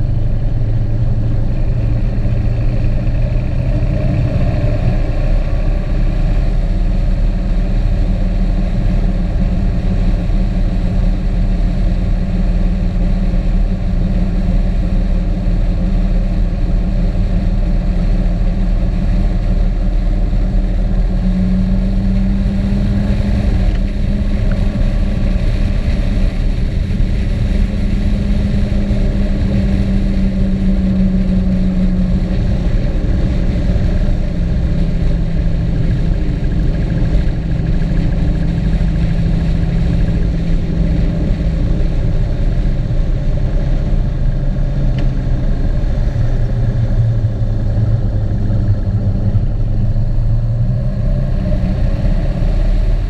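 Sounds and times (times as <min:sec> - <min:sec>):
vehicle engine hum: 0:00.0 - 0:53.0.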